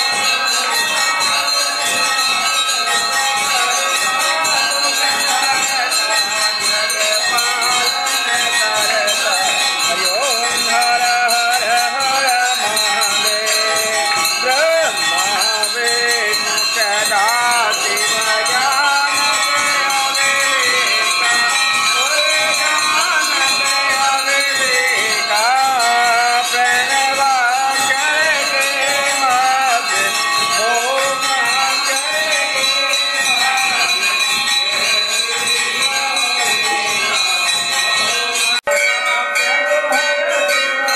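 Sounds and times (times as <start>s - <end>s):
jingling bells: 0.0s - 40.9s
rattling percussion: 0.0s - 40.9s.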